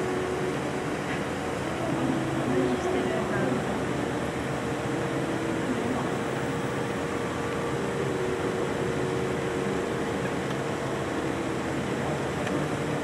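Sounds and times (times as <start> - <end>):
faint constant tone: 0.0 - 13.0
machine hum and hiss: 0.0 - 13.0.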